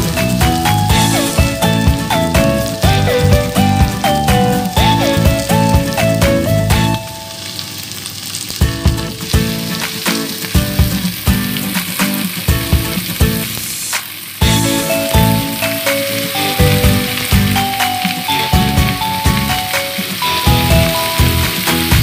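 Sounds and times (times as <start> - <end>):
background music with beat: 0.0 - 7.2, 8.6 - 13.6, 14.4 - 22.0
food sizzling in hot oil: 0.0 - 22.0.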